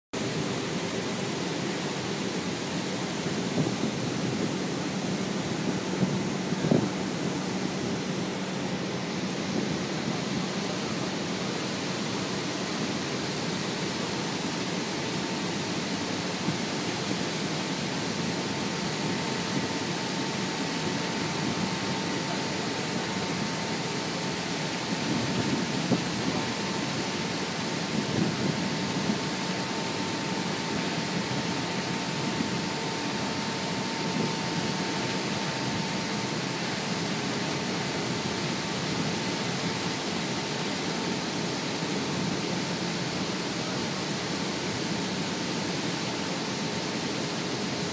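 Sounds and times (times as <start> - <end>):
wind: 0.1 - 47.9
boat engine drone: 0.2 - 47.9
faint steady whine: 0.2 - 47.9
water rushing: 0.2 - 47.9.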